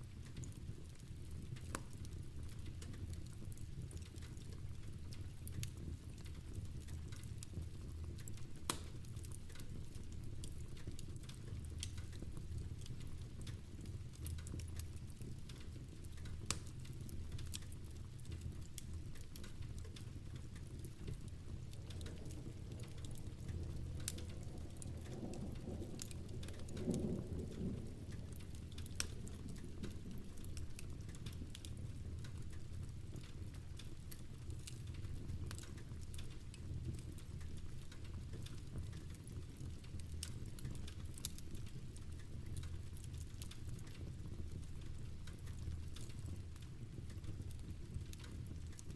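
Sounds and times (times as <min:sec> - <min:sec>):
steady rain: 0:00.0 - 0:48.9
wood fire crackling: 0:00.0 - 0:48.9.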